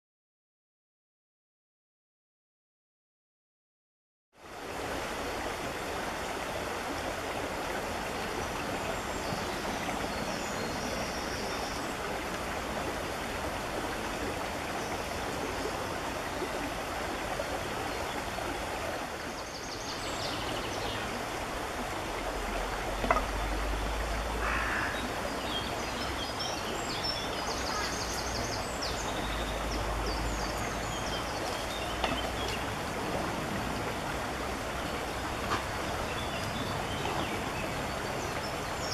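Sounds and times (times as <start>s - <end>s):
stream running over rocks: 4.4s - 38.9s.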